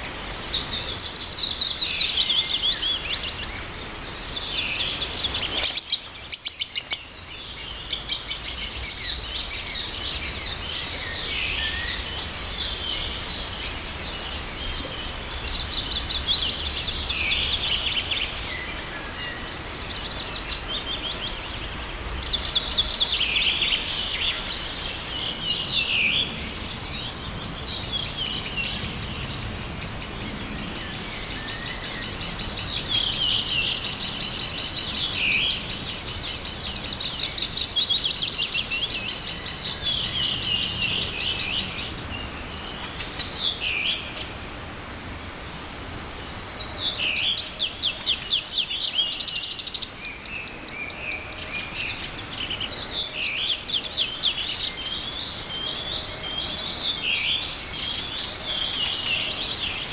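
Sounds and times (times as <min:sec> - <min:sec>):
faint forest stream rushing: 0:00.0 - 0:59.9
songbirds singing: 0:00.0 - 0:59.9.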